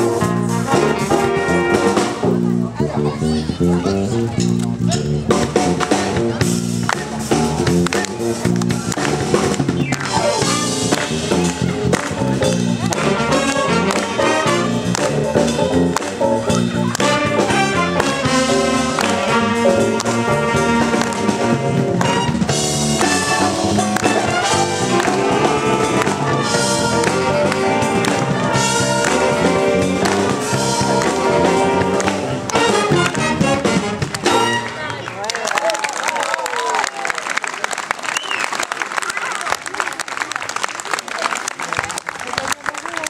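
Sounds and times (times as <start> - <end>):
big band playing funky jazz: 0.0 - 35.1.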